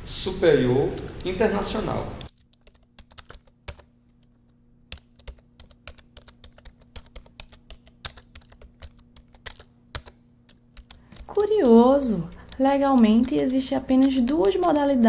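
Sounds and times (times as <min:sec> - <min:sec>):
faint steady hum: 0:00.0 - 0:15.0
keyboard typing: 0:00.9 - 0:15.0.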